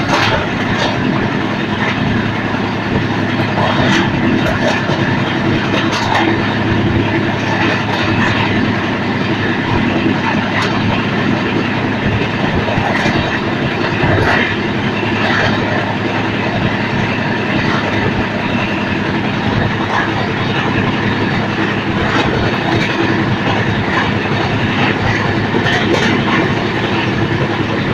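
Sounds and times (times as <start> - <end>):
train wheels rumbling on track: 0.0 - 27.9
wheels clicking over rail joints: 0.0 - 27.9.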